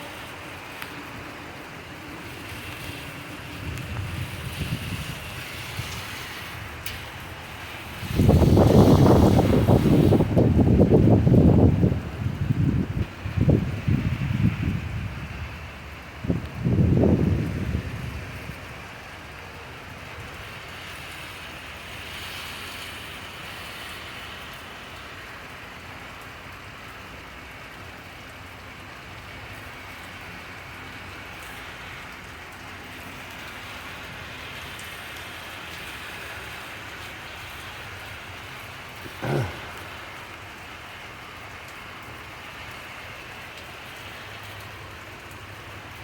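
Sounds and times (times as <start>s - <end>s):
rain pattering on surfaces: 0.0s - 46.0s.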